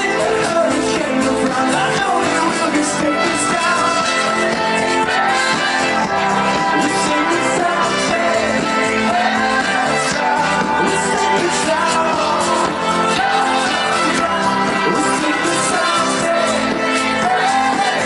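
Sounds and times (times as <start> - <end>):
live band playing synth-pop: 0.0 - 18.0.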